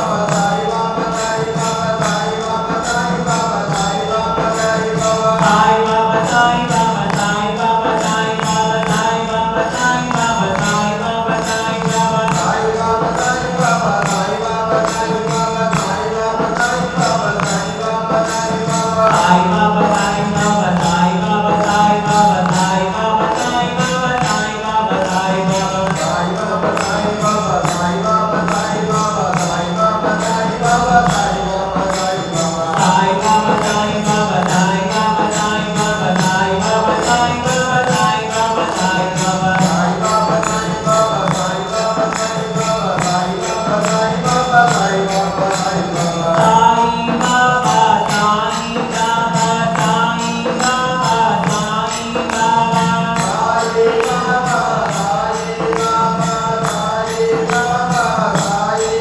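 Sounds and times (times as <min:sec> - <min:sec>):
devotional chanting: 0:00.0 - 0:59.0
jingling percussion beat: 0:00.0 - 0:59.0.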